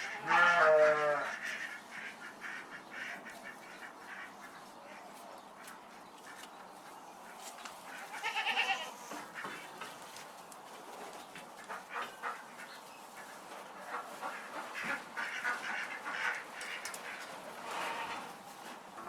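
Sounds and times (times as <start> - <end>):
farm animals calling: 0.0 - 19.0.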